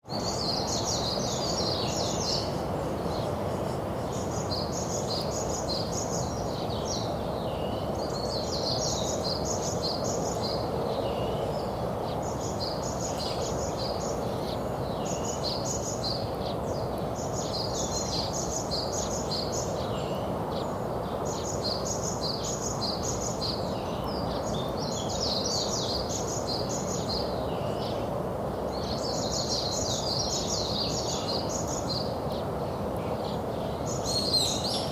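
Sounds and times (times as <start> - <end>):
songbirds chirping: 0.0 - 34.9
steady background hiss: 0.0 - 34.9.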